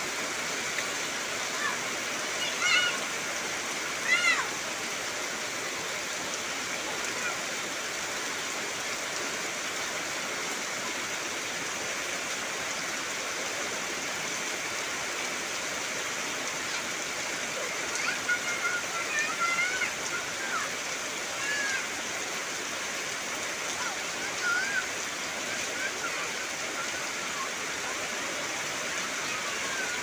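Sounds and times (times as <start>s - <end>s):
heavy rain on trees: 0.0s - 30.0s.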